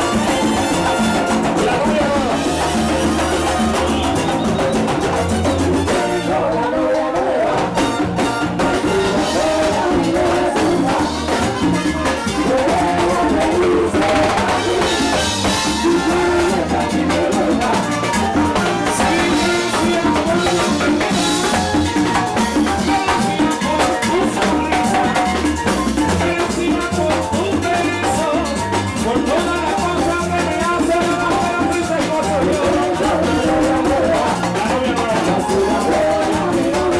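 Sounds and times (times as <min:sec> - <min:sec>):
hand frame drums: 0:00.0 - 0:06.4, 0:07.4 - 0:36.9
band playing: 0:00.0 - 0:36.9.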